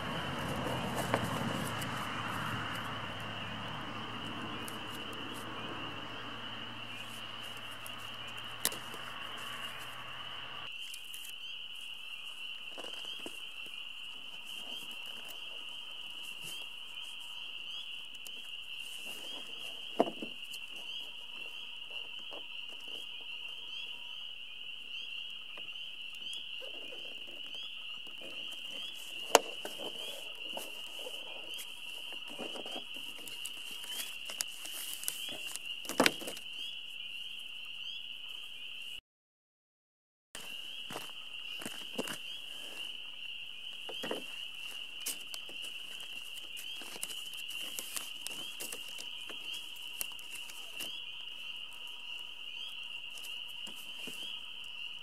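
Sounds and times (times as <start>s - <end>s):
chorus of small calling animals: 0.0s - 38.8s, 40.4s - 55.0s.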